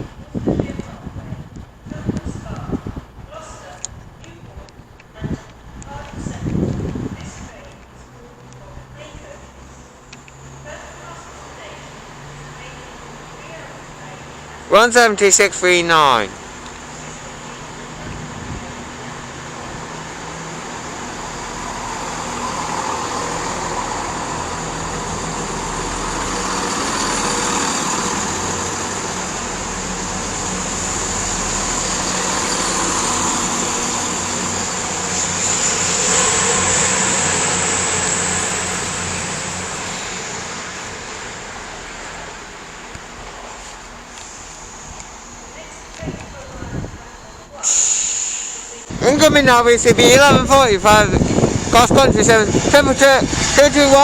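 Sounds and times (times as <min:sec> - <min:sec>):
diesel train engines running: 0:01.4 - 0:54.0.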